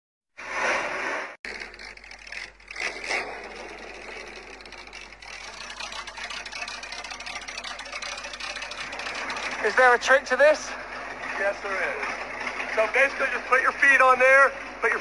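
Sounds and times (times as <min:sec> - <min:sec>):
car engine idling: 0:01.5 - 0:15.0.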